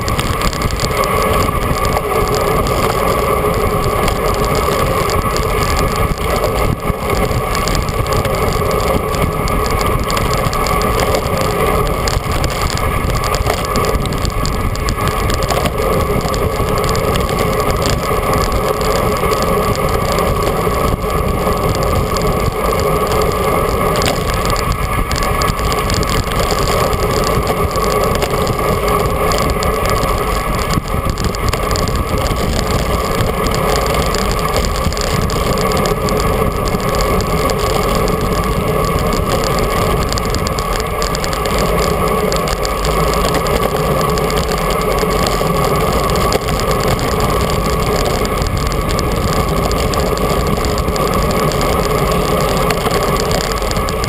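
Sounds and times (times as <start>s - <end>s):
bicycle tyre noise: 0.0s - 54.0s
constant droning hum: 0.0s - 54.0s
wind rushing: 0.0s - 54.0s.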